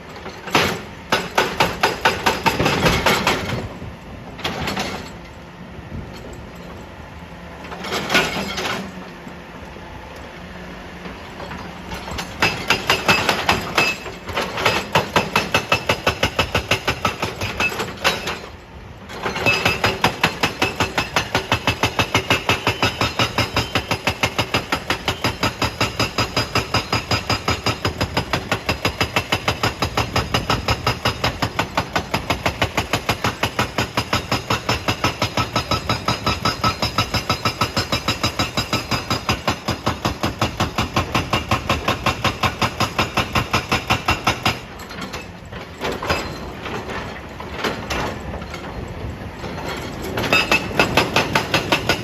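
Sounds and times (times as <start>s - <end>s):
hydraulic breaker hammering rock: 0.0s - 5.3s, 7.6s - 9.0s, 11.1s - 52.0s.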